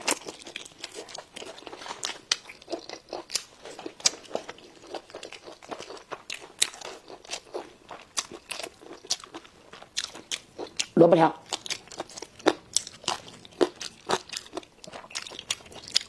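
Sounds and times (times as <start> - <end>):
crunchy food chewing: 0.0 - 16.0.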